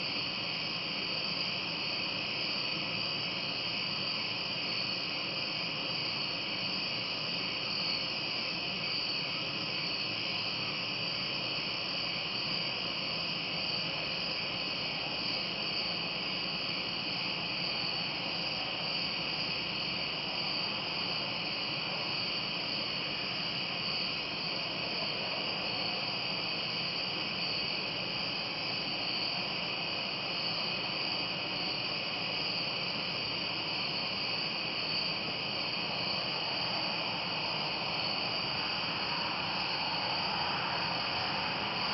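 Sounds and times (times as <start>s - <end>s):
insects chorus shrilling: 0.0s - 41.9s.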